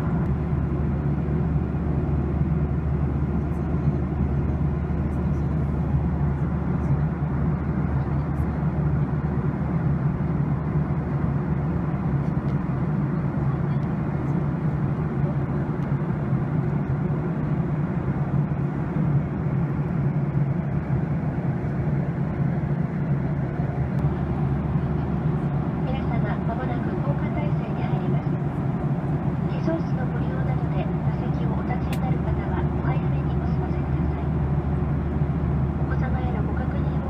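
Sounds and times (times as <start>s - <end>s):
jet airliner cabin noise: 0.0s - 37.0s.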